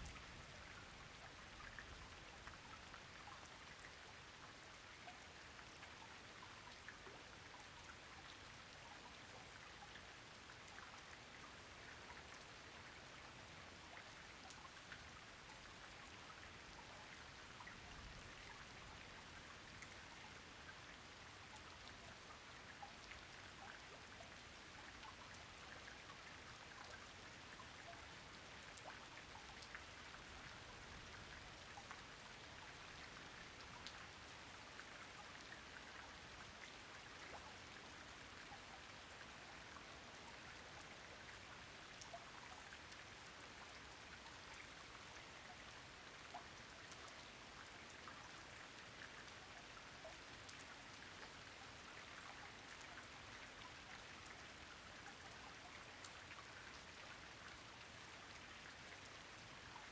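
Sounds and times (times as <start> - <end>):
faint rain with dripping drops: 0.0 - 59.9.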